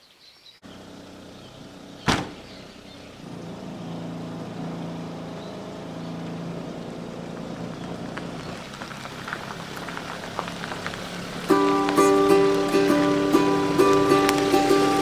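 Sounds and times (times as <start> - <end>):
car engine running: 0.6 - 15.0.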